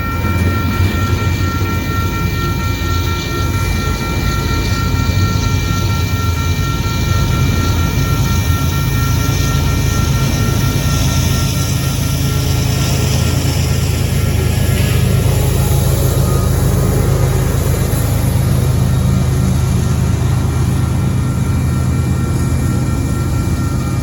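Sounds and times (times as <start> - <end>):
steady high tones: 0.0 - 24.0
train rumbling past: 0.0 - 24.0.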